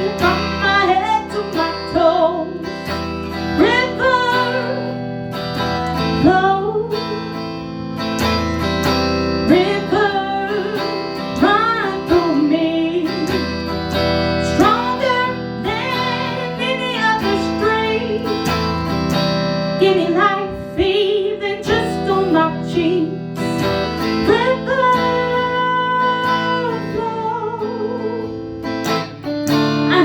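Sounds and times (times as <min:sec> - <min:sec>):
person singing: 0:00.0 - 0:07.8, 0:09.4 - 0:18.8, 0:19.8 - 0:28.6
strummed acoustic guitar: 0:00.0 - 0:30.0.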